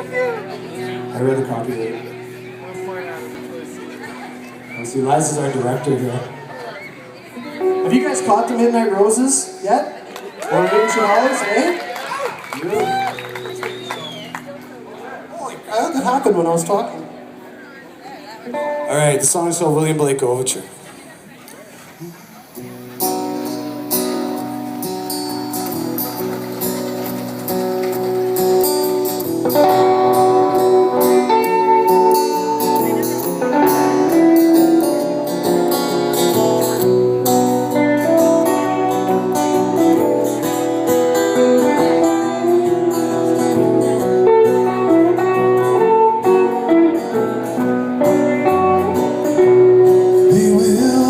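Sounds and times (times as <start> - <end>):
live band with guitars: 0.0 - 51.0.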